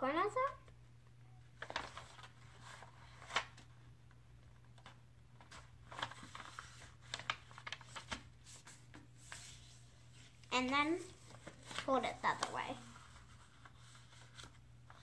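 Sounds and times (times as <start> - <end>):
paper rustling and crinkling: 1.6 - 3.8, 4.4 - 15.0.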